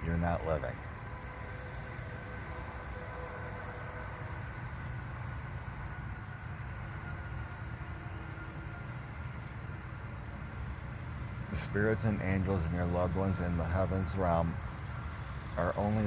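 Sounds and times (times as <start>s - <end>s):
crickets chirring: 0.0s - 16.0s
low rumble and hiss: 0.0s - 16.0s.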